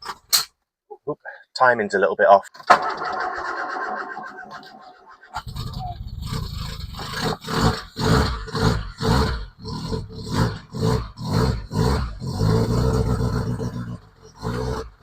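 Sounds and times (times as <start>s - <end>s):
car engine running roughly: 2.7s - 15.0s.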